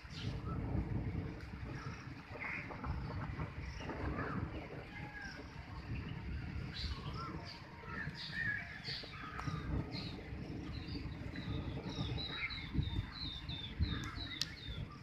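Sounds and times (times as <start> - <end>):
birds chirping: 0.0 - 15.0
wind rumble on microphone: 0.0 - 15.0.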